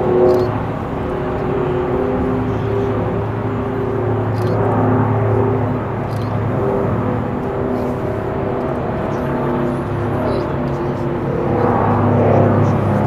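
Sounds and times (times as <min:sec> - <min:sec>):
propeller aircraft engines drone: 0:00.0 - 0:13.0.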